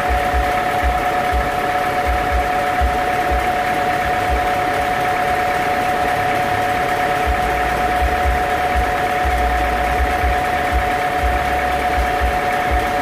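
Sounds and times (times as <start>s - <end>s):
band sawmill high whine: 0.0s - 13.0s.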